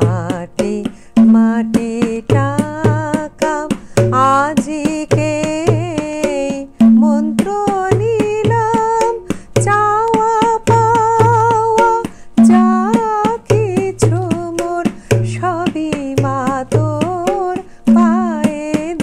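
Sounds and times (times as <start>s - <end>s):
tabla playing: 0.0s - 19.0s
woman singing: 0.0s - 19.0s.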